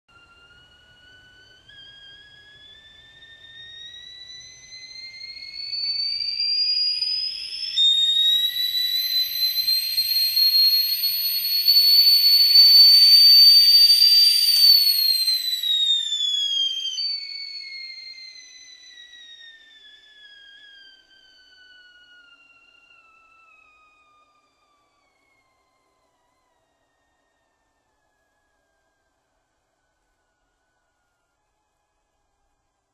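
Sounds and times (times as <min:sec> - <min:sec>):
stovetop kettle whistling: 0:00.1 - 0:32.8.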